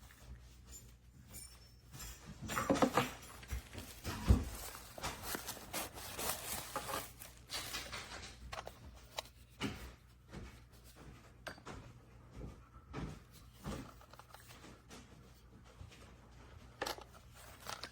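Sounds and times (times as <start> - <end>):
clicks and knocks of handling: 0.0 - 17.9
rustling of objects: 0.0 - 17.9.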